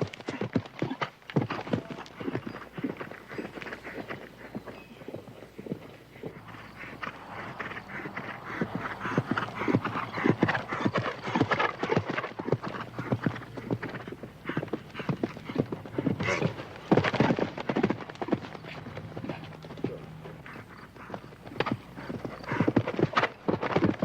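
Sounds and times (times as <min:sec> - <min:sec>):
horse hooves clip-clopping: 0:00.0 - 0:24.0.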